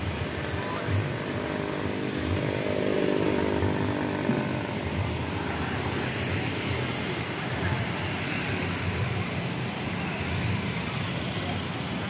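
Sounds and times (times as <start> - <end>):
small motorcycle engine running: 0.0 - 12.0
street traffic noise: 0.0 - 12.0.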